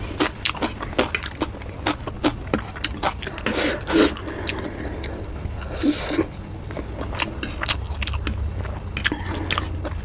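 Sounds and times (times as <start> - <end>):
chewing noodles: 0.0 - 10.0
steady low hum: 0.0 - 10.0.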